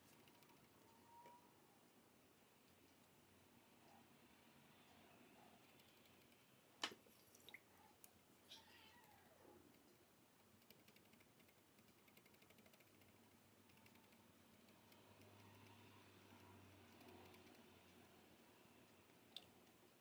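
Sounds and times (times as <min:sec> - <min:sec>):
faint rapid ticking: 0:00.0 - 0:06.8, 0:07.6 - 0:20.0
faint clicks and taps: 0:00.0 - 0:20.0.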